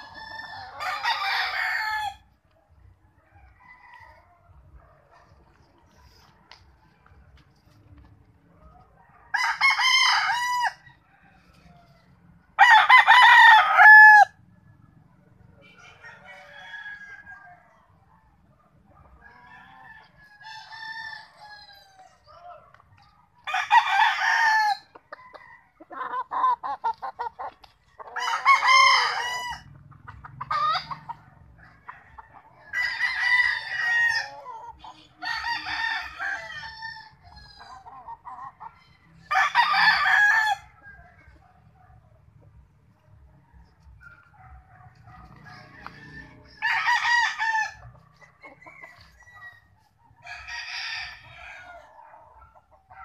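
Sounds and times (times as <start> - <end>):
roosters crowing: 0.0 - 7.8, 8.6 - 14.8, 15.7 - 41.7, 43.3 - 53.0
distant roosters crowing: 0.0 - 53.0.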